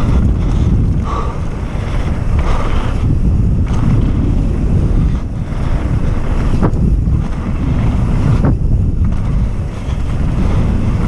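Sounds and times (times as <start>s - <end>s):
tyres rumbling on dirt trail: 0.0s - 11.0s
wind buffeting microphone: 0.0s - 11.0s.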